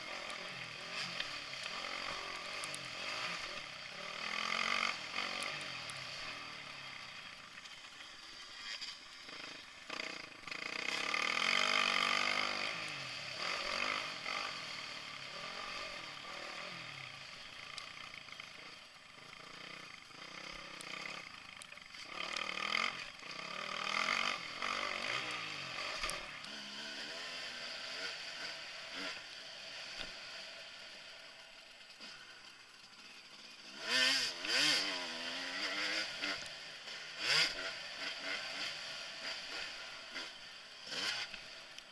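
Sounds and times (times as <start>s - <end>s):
dirt bike engine revving: 0.0s - 30.9s, 33.3s - 41.9s.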